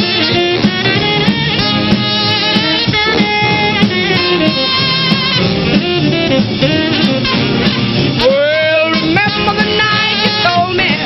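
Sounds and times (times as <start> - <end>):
drums: 0.0 - 11.0
piano: 0.0 - 11.0
tenor saxophone solo: 0.0 - 11.0
upright bass: 0.0 - 11.0.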